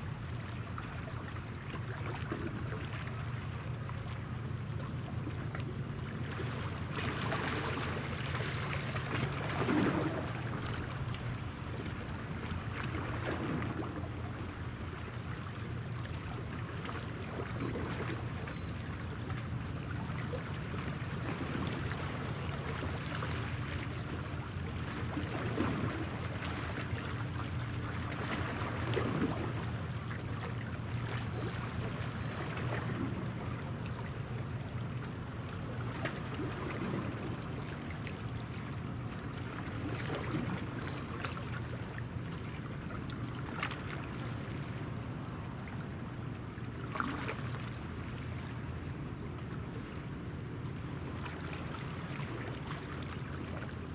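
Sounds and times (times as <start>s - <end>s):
water lapping: 0.0s - 53.9s.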